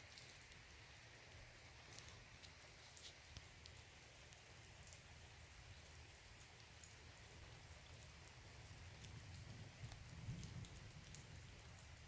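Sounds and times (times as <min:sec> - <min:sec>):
faint ticks: 0:01.5 - 0:12.0.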